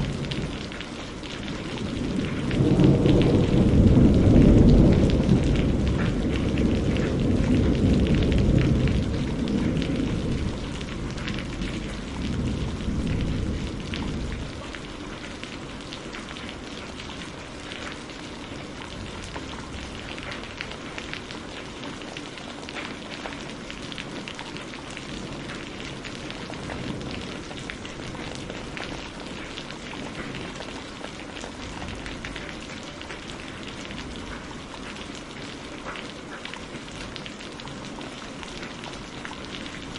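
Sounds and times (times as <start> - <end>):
thunder rumbling: 0.0 - 22.1, 22.8 - 35.4
steady rain: 0.0 - 39.9.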